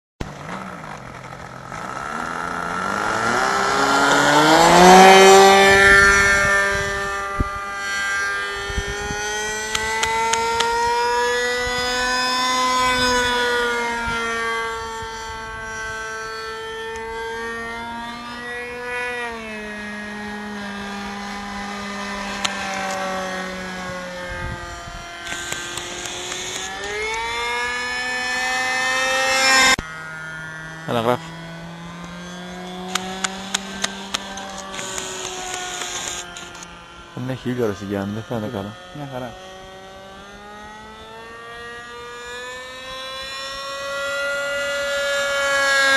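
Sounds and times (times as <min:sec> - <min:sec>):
model airplane engine revving: 0:00.2 - 0:45.9.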